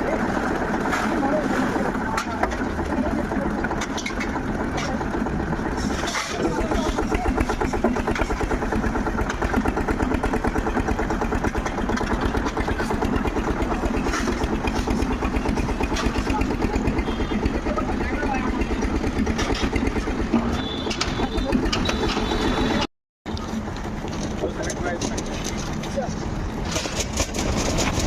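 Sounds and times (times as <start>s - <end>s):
concrete mixer engine chugging: 0.0s - 22.9s, 23.5s - 28.0s.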